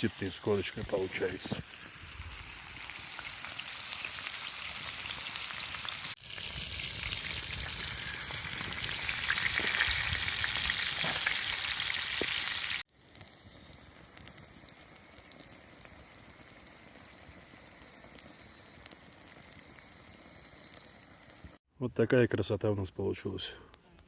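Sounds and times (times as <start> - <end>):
steaks sizzling over campfire: 0.0 - 21.6.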